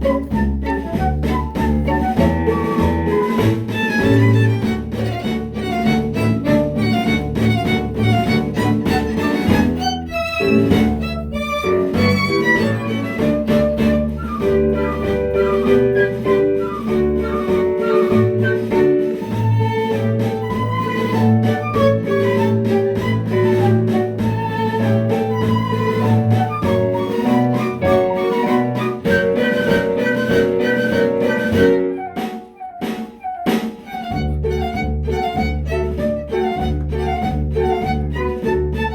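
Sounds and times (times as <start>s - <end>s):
bowed strings melody: 0.0s - 38.9s
instrumental ensemble music: 0.0s - 38.9s
plucked string rhythm: 0.0s - 38.9s.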